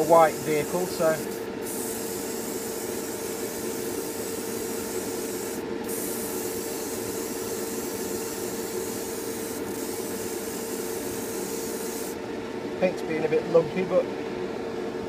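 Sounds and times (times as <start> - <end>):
airbrush hissing: 0.0 - 12.2
air compressor: 0.0 - 12.3
extractor fan hum: 0.0 - 15.0.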